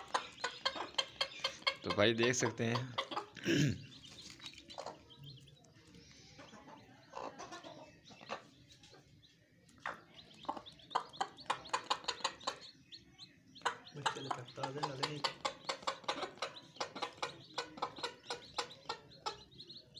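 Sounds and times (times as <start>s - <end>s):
chicks peeping: 0.0s - 19.9s
hen clucking: 0.0s - 19.9s.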